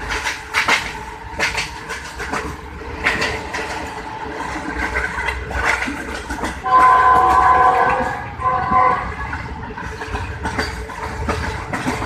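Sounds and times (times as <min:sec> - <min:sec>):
train rumble inside coach: 0:00.0 - 0:12.0
wheels knocking over rail joints: 0:00.0 - 0:12.0.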